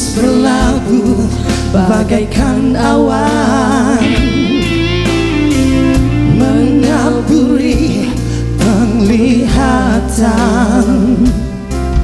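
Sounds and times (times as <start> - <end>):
person singing with vibrato: 0.0 - 11.7
band playing rock ballad: 0.0 - 12.0.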